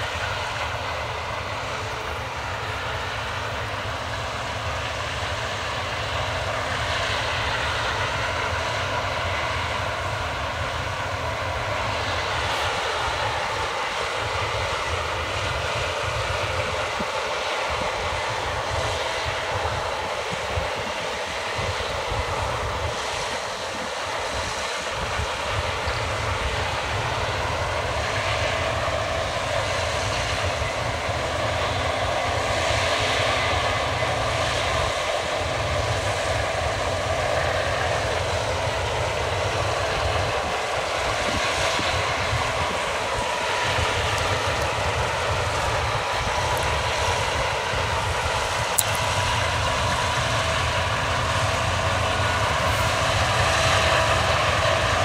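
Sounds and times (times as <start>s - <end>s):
combine harvester drone: 0.0s - 55.0s
steady machine whine: 0.0s - 55.0s.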